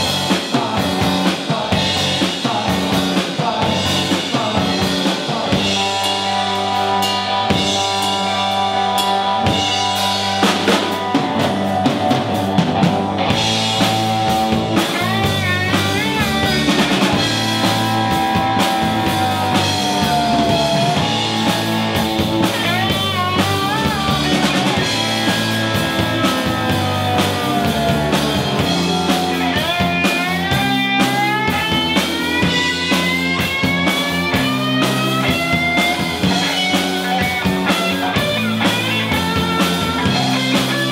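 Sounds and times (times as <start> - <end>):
live rock band playing: 0.0 - 40.9
electric guitar bent notes: 4.3 - 40.9.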